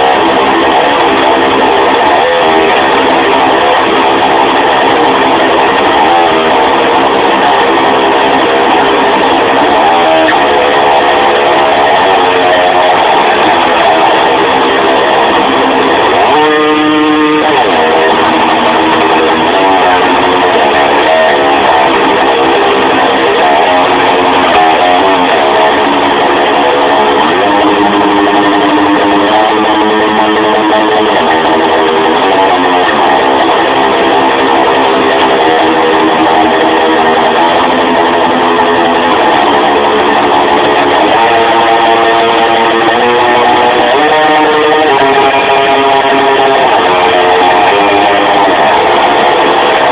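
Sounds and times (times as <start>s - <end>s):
electric guitar playing: 0.0s - 49.9s.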